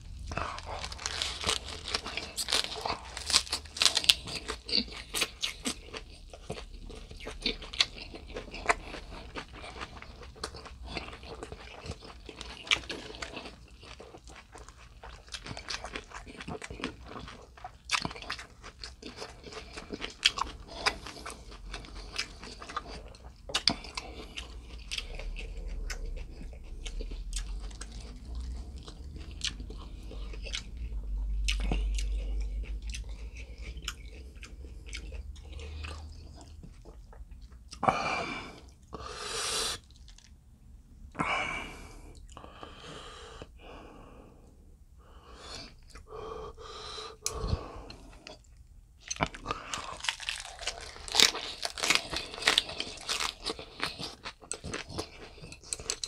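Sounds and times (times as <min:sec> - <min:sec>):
chewing crunchy food: 0:00.0 - 0:39.0, 0:39.8 - 0:40.4, 0:47.2 - 0:56.0.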